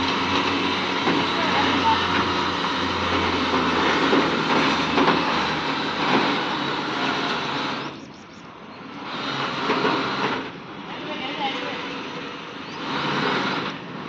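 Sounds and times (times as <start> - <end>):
truck engine hissing: 0.0 - 14.0.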